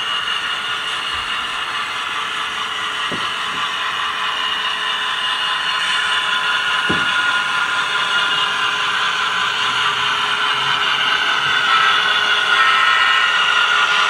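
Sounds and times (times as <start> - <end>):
model train whirring hum: 0.0 - 14.0.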